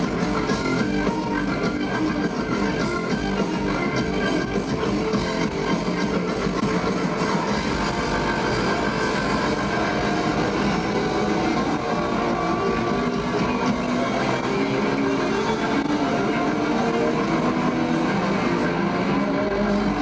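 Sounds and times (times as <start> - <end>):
drums: 0.0 - 20.0
electric guitar: 0.0 - 20.0
keyboards: 0.0 - 20.0.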